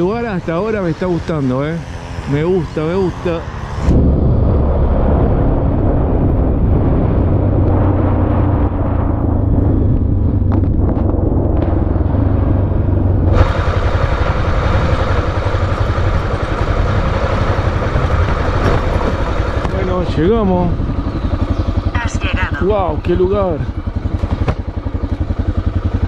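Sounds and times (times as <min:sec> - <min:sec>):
road and wind noise: 0:00.0 - 0:26.0
vehicle engine rumble: 0:00.0 - 0:26.0.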